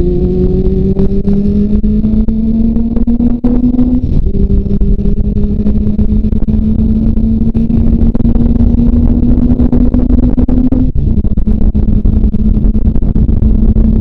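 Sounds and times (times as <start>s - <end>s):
motorcycle engine running: 0.0s - 14.0s
wind rush over microphone: 0.0s - 14.0s.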